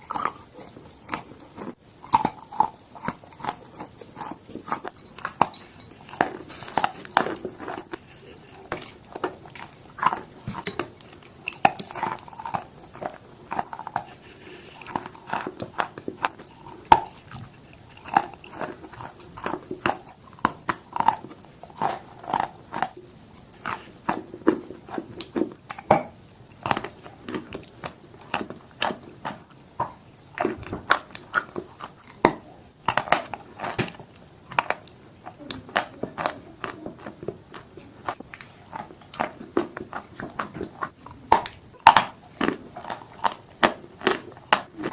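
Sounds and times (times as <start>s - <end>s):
chewing chalk crunches: 0.0s - 44.9s.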